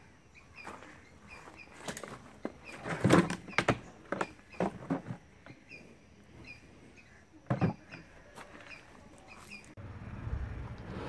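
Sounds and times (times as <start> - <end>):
birds chirping faintly: 0.0 - 10.6.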